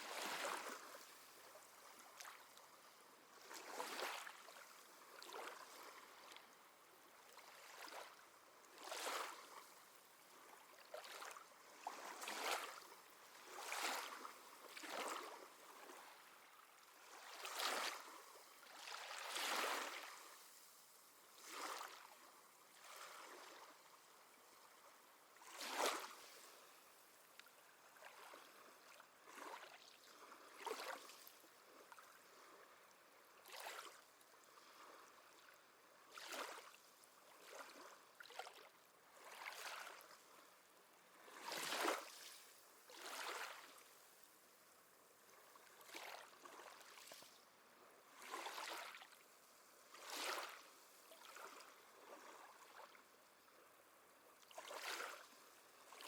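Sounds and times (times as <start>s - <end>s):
small waves lapping at shore: 0.0s - 56.0s.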